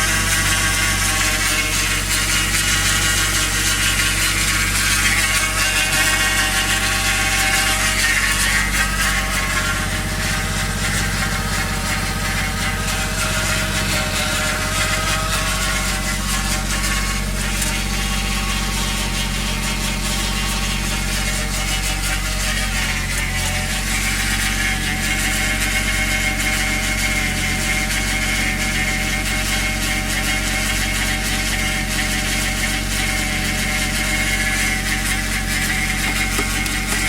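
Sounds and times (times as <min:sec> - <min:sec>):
high-pitched engine whine: 0:00.0 - 0:37.0.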